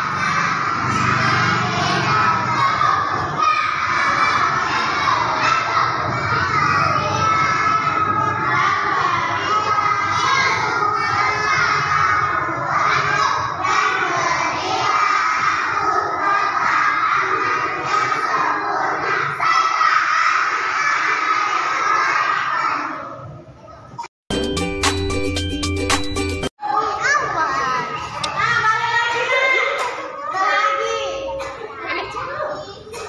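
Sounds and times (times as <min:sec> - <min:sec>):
children shouting: 0:00.0 - 0:24.1, 0:26.6 - 0:33.0.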